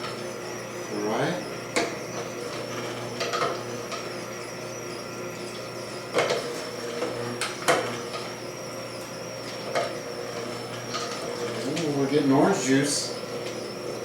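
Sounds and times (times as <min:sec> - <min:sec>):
juicer motor humming: 0:00.0 - 0:14.0.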